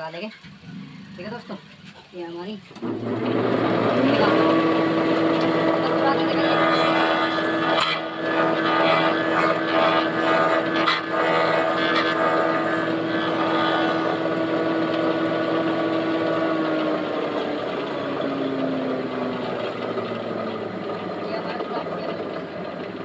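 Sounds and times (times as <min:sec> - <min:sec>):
wood-boring machine motor hum: 0:02.7 - 0:23.0.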